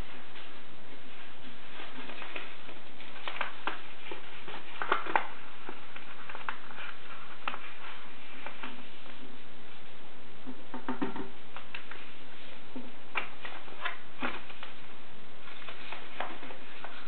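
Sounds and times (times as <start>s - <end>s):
paper rustling and creasing: 0.0s - 9.8s, 11.5s - 17.0s.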